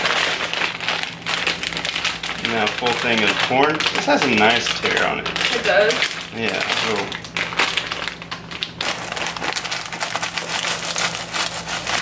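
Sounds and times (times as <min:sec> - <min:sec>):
frozen kernels pouring into metal pot: 0:00.0 - 0:12.0
plastic bag crinkling: 0:00.0 - 0:12.0.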